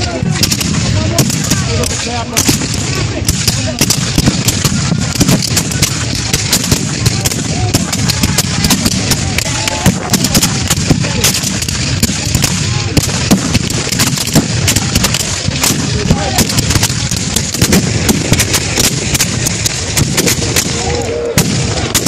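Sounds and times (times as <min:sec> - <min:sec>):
musket fire crackle: 0:00.0 - 0:22.0.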